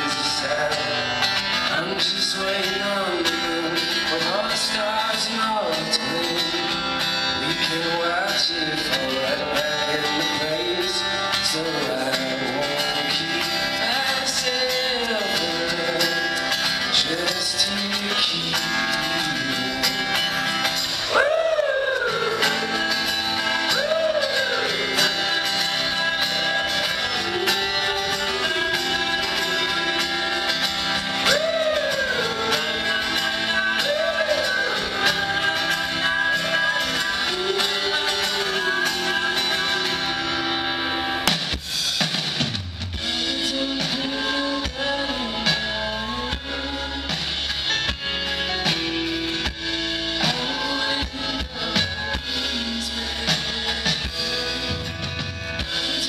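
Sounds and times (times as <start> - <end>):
person singing: 0.0 - 41.3, 43.0 - 47.9, 49.5 - 56.0
folk band playing: 0.0 - 56.0.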